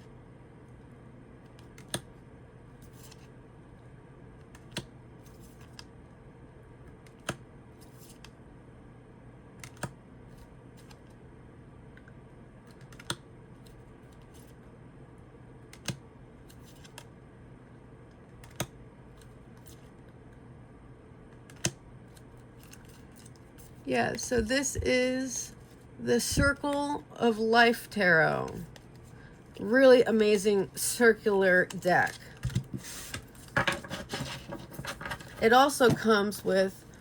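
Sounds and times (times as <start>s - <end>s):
low room hum: 0.0s - 37.0s.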